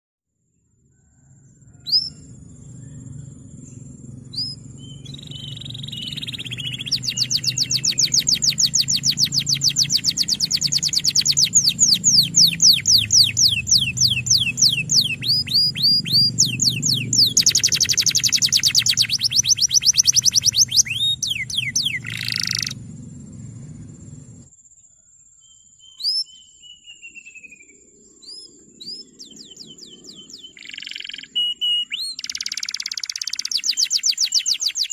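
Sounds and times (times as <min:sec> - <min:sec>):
single bird chirps: 0:01.0 - 0:22.8, 0:25.4 - 0:34.9
canary singing: 0:01.6 - 0:24.5, 0:25.5 - 0:34.9.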